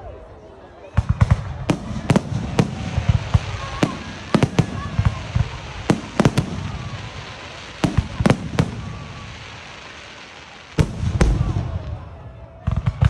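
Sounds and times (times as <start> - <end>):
fireworks bangs: 1.0 - 13.0.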